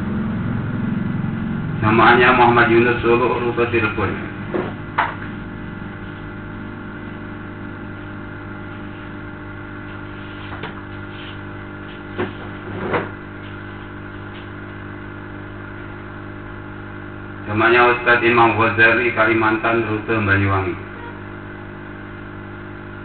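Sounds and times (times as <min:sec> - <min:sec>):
steady tonal hum: 0:00.0 - 0:23.0.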